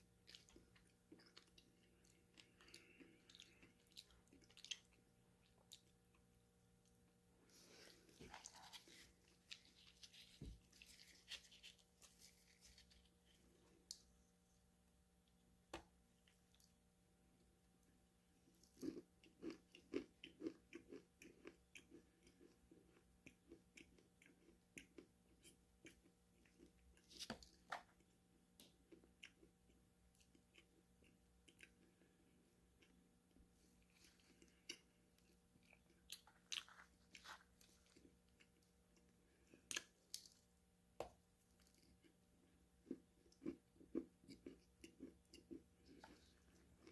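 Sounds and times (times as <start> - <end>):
chewing crunchy food: 0.1 - 14.1, 18.4 - 40.5, 41.4 - 46.9.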